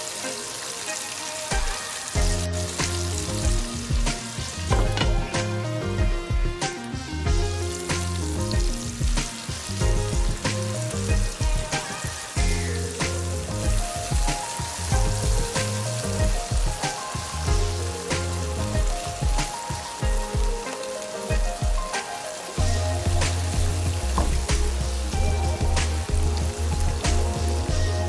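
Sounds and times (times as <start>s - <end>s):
background music with steady beat: 0.0s - 28.0s
stew sizzling in a wok: 0.0s - 28.0s.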